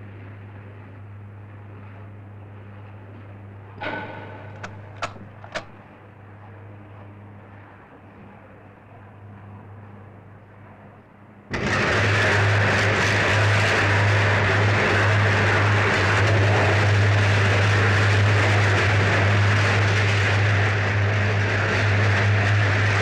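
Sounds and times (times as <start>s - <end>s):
electric arc furnace rushing: 0.0s - 8.4s, 11.3s - 23.0s
deep electrical hum: 0.0s - 23.0s.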